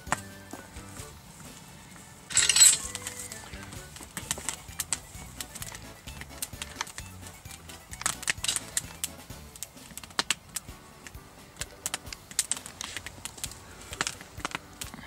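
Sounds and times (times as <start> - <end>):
sharp metallic clicks: 2.3 - 15.0.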